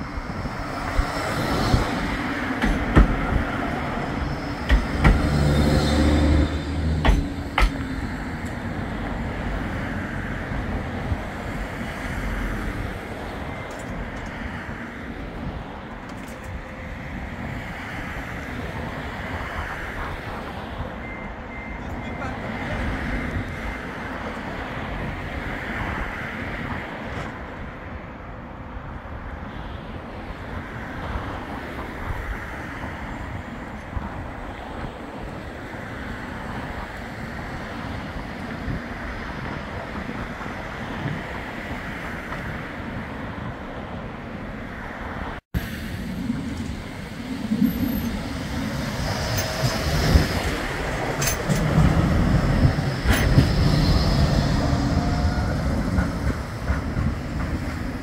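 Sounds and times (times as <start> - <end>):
tram moving off: 0.0 - 28.0, 30.1 - 58.0
street traffic: 0.0 - 58.0
tram passing close by: 0.0 - 58.0
wind: 0.0 - 58.0.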